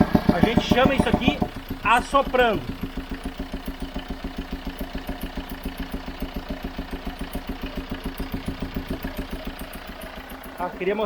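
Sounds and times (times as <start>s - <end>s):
car engine idling with puffing: 0.0s - 11.0s.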